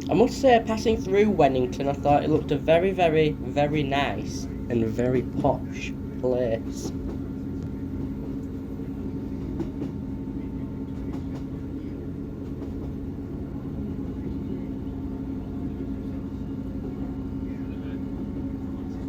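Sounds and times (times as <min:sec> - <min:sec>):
train engine drone: 0:00.0 - 0:19.0
wheels rumbling on rail: 0:00.0 - 0:19.0.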